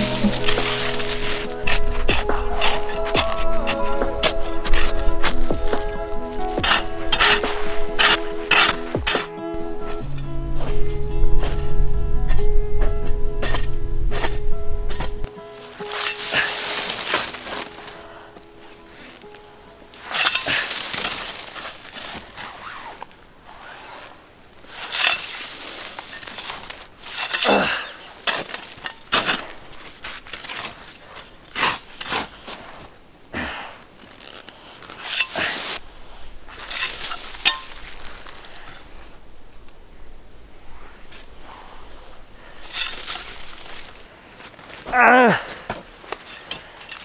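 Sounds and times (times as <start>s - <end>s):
shovel crunching into snow: 0.0s - 11.7s, 13.4s - 39.2s, 40.8s - 47.0s.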